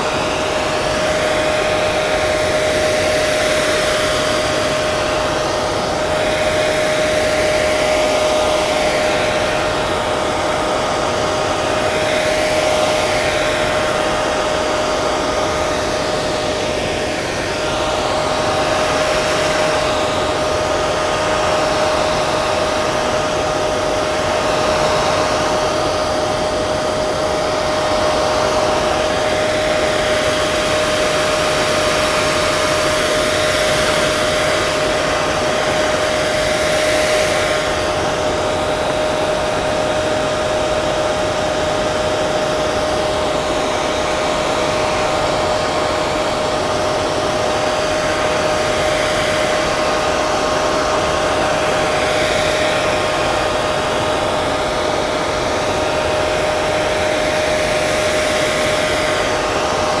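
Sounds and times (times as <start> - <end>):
hair dryer blowing: 0.0 - 60.0.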